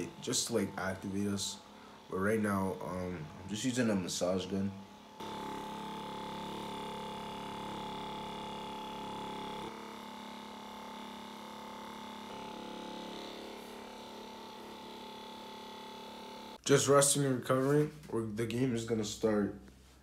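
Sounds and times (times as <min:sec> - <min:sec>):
massage gun motor buzzing: 0:00.0 - 0:16.6.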